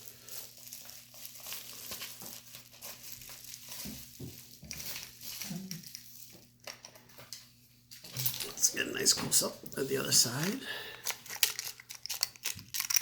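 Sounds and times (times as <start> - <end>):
packaging rustling and crinkling: 0.0 - 7.4, 9.9 - 13.0.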